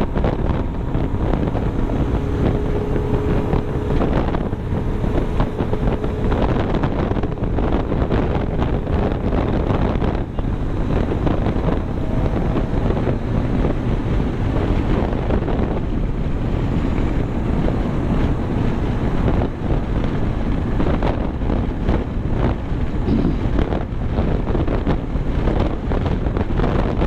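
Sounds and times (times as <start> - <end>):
road and engine noise: 0.0 - 27.0
wind buffeting microphone: 0.0 - 27.0.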